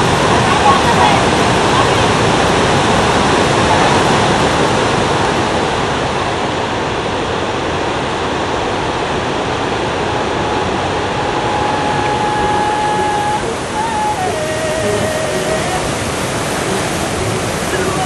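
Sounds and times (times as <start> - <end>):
white water rushing: 0.0 - 18.0.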